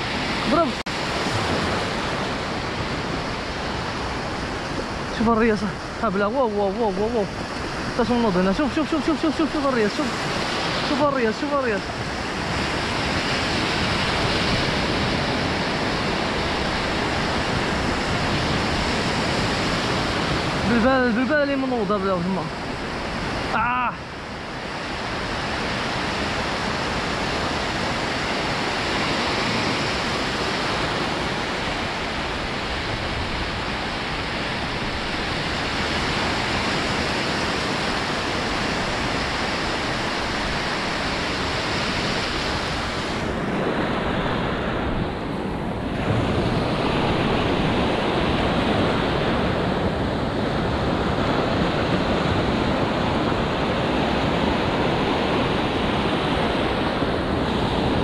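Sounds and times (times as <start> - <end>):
waves breaking on beach: 0.0 - 58.0
wind rumbling on microphone: 0.0 - 58.0.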